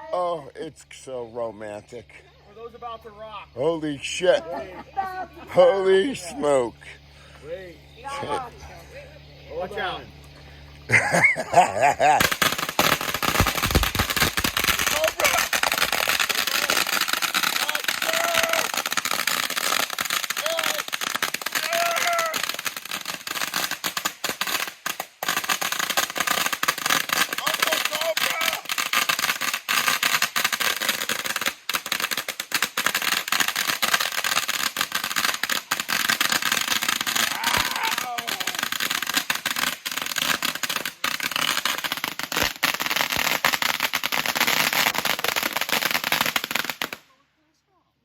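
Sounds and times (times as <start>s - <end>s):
fireworks crackling: 0.0s - 47.2s.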